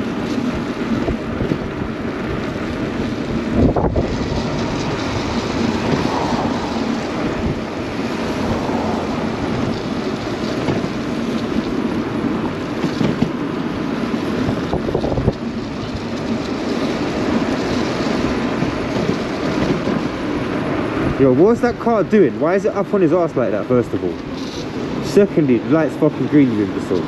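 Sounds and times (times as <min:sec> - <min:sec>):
wind rumble on microphone: 0:00.0 - 0:22.0
traffic road noise: 0:00.0 - 0:27.0.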